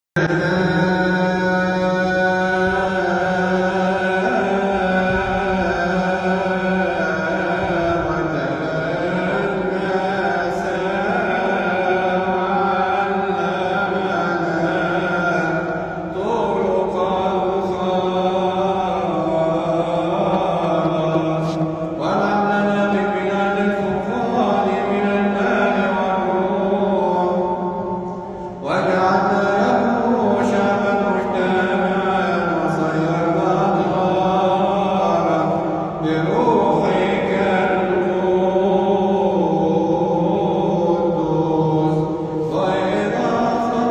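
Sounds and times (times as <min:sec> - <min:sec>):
man chanting a hymn: 0:00.2 - 0:43.9.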